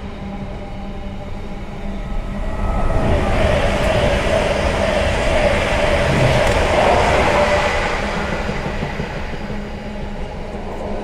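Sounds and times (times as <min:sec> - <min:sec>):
passing electric train rush: 0:00.0 - 0:11.0.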